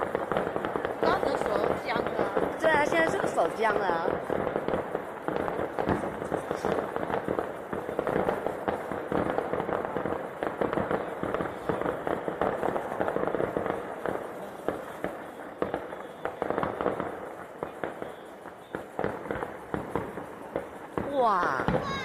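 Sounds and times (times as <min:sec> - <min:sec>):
fireworks crackling pops: 0:00.0 - 0:22.0.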